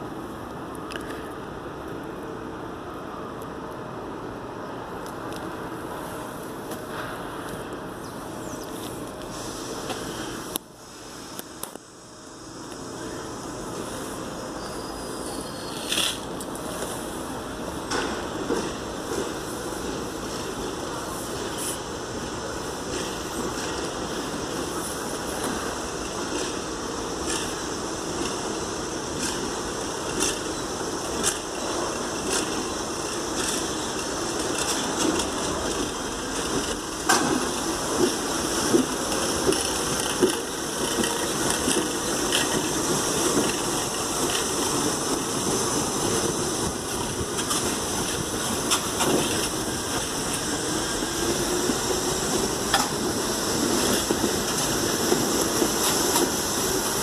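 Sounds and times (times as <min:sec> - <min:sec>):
subway train rushing on rails: 0:00.0 - 0:57.0.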